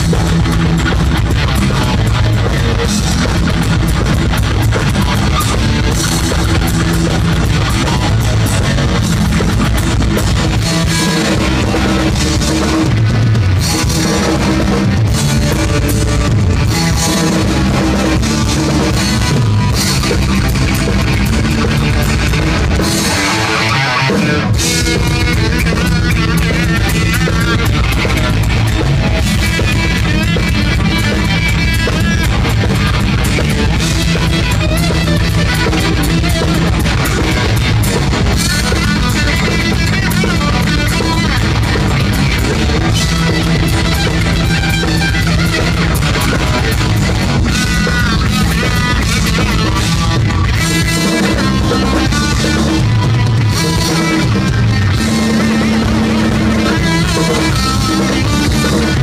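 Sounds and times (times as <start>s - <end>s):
heavy metal band playing: 0.0s - 59.0s.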